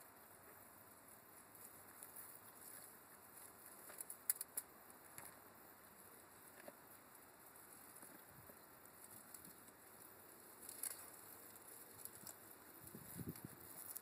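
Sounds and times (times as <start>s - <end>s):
faint rustle: 0.0s - 14.0s.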